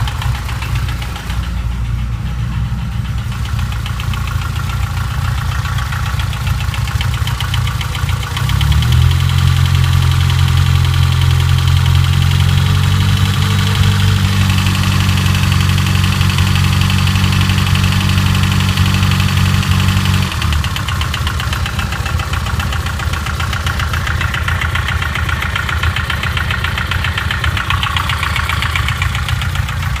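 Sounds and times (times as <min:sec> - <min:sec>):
car engine idling and revving: 0:00.0 - 0:30.0
rapid mechanical ticking: 0:00.0 - 0:30.0.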